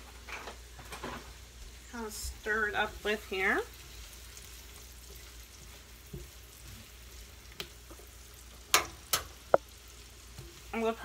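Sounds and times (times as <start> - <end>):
onions sizzling in butter: 0.0 - 11.0.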